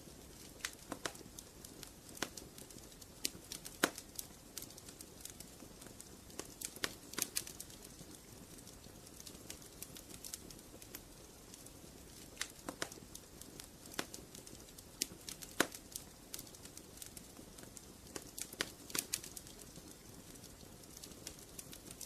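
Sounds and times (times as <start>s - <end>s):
faint steady hiss: 0.0s - 22.0s
wood fire crackling: 0.0s - 22.0s.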